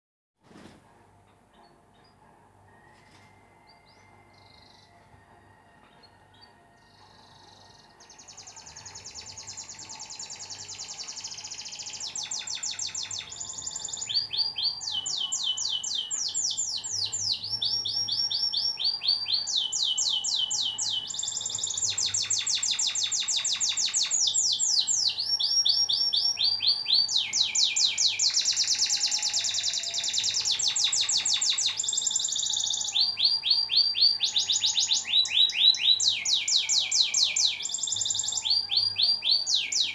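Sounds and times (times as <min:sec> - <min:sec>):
canary singing: 0:01.5 - 0:39.9.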